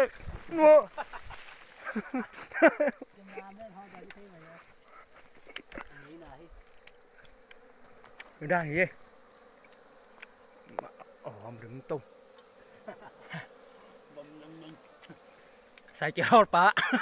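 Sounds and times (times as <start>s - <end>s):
bees buzzing past: 0.0s - 17.0s.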